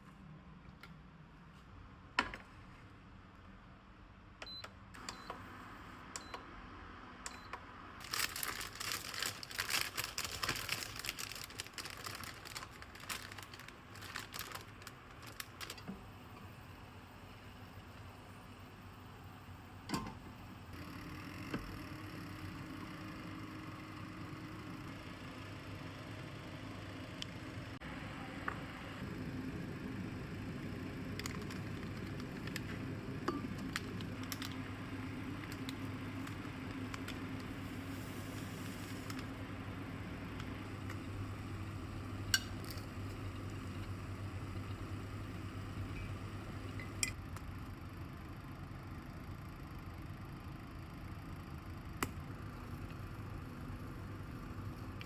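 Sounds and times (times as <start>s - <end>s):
kitchen appliance electrical hum: 0.0s - 55.0s.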